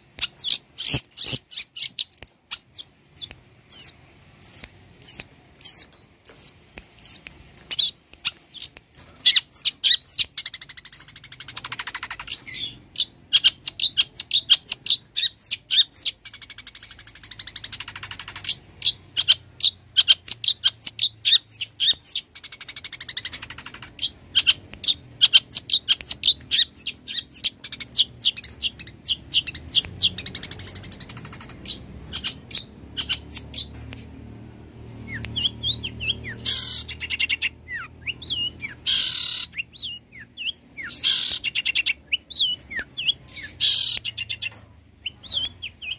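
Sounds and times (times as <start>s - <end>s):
bird chattering song: 0.2s - 34.2s, 35.0s - 45.9s.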